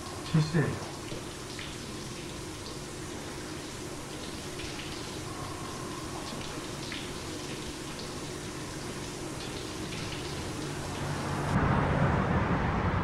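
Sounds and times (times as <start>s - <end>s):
shower running: 0.0s - 11.6s.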